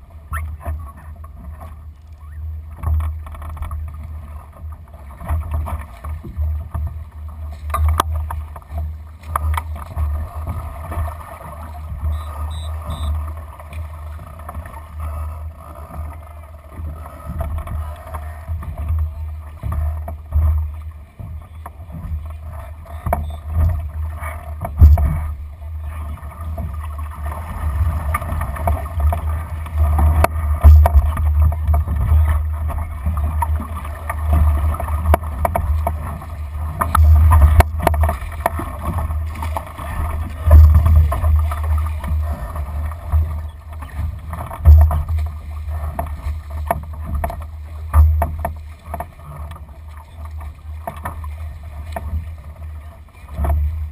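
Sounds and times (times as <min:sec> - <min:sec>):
water washing along hull: 0:00.0 - 0:53.9.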